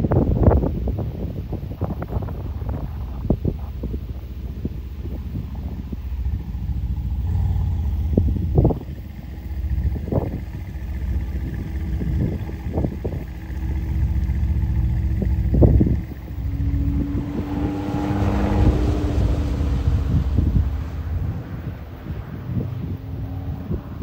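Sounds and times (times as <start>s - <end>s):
wind buffeting microphone: 0.0s - 24.0s
car engine passing: 2.1s - 24.0s.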